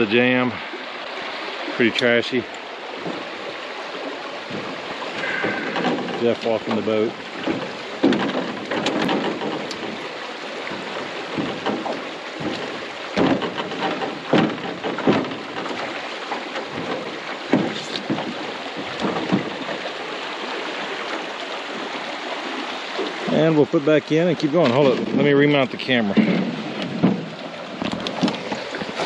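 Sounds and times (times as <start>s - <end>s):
splashes and knocks of canoe: 0.0s - 29.0s
water rushing: 0.0s - 29.0s.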